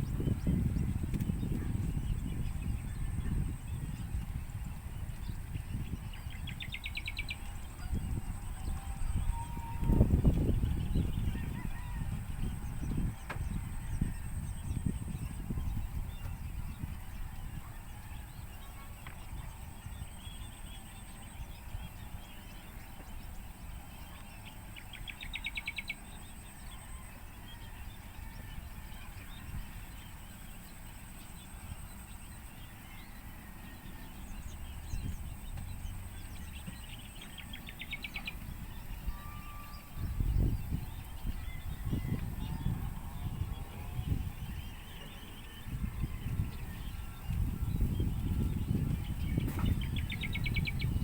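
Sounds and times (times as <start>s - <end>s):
steady low rumble: 0.0s - 23.8s, 28.6s - 51.0s
sparrows chirping: 0.0s - 51.0s.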